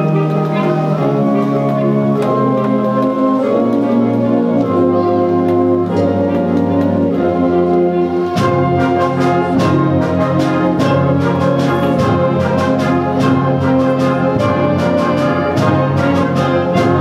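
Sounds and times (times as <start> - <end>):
concert band playing: 0.0 - 17.0
percussion strikes: 0.0 - 17.0.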